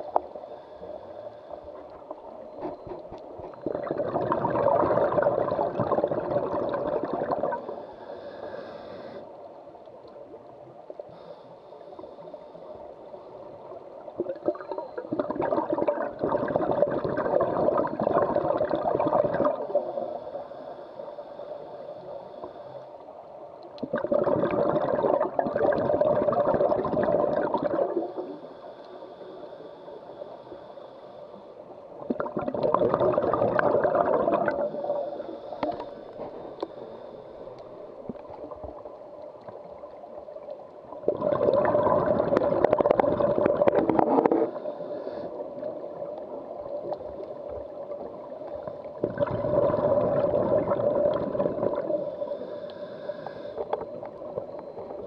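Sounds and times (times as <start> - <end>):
faint hiss: 0.0 - 4.0, 5.1 - 16.6, 17.8 - 24.0, 27.2 - 32.3, 33.2 - 41.1, 42.0 - 49.0, 50.0 - 55.0
underwater breath bubbling: 0.0 - 9.4, 14.1 - 23.0, 23.8 - 55.0.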